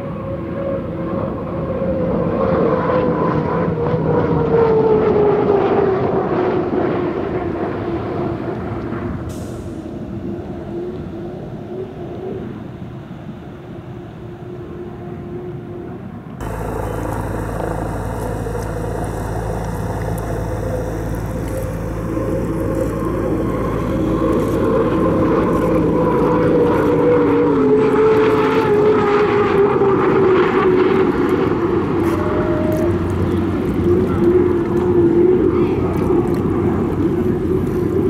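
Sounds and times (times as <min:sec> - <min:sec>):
boat turbine engine whine: 0:00.0 - 0:38.0.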